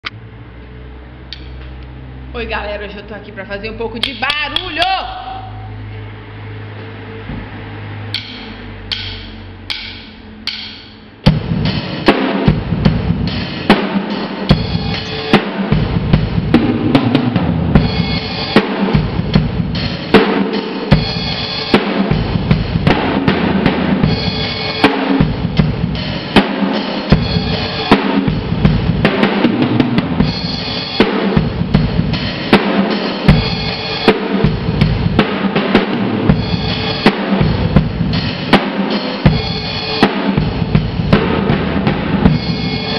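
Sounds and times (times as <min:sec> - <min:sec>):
drum kit beat: 0:03.6 - 0:06.2, 0:06.9 - 0:42.9.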